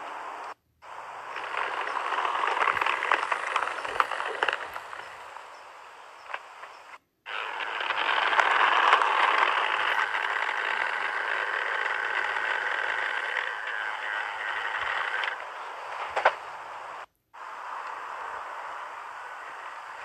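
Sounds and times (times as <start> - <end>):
model locomotive whirring hiss: 0.0 - 20.0.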